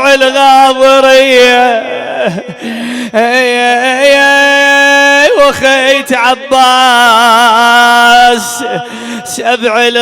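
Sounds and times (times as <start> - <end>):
man chanting a lament: 0.0 - 10.0.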